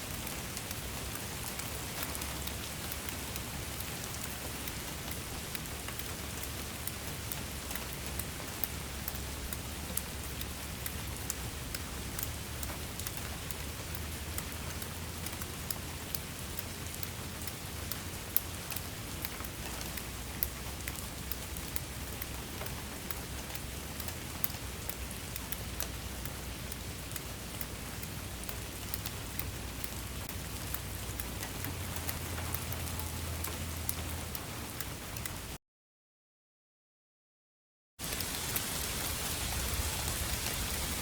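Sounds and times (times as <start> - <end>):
rain drops ticking on a surface: 0.0 - 35.6, 38.0 - 41.0.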